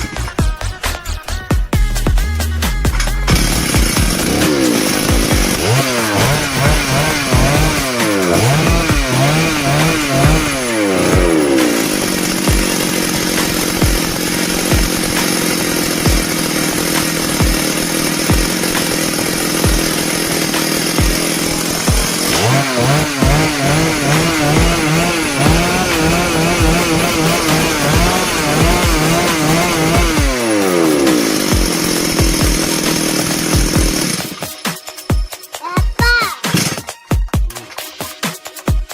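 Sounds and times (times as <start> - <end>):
chainsaw engine revving: 0.0 - 34.5, 36.4 - 36.9.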